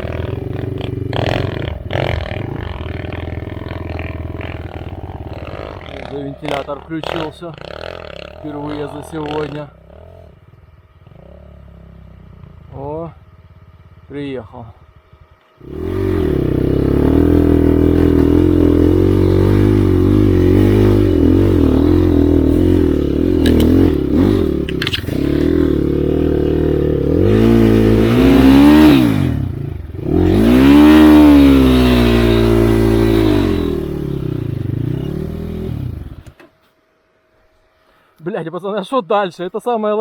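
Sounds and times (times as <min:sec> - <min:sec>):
motorcycle engine revving: 0:00.0 - 0:36.6.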